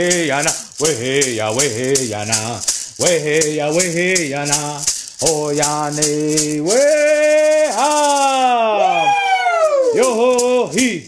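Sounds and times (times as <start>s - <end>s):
man singing: 0.0s - 8.8s, 9.9s - 11.0s
hand rattle shaking: 0.0s - 11.0s.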